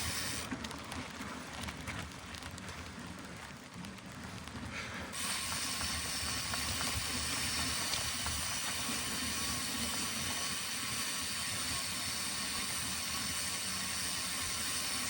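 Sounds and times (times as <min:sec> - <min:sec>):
bike tyres rolling on mud: 0:00.0 - 0:15.0.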